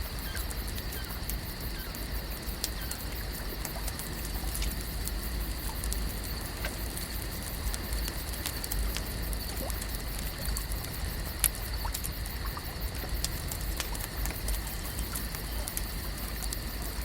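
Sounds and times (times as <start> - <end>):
small sharp crackles and clicks: 0.0 - 17.0.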